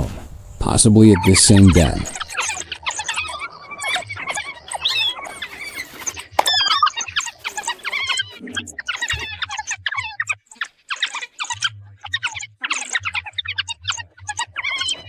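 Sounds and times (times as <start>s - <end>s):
wild dogs twittering squeals: 0.6s - 15.0s.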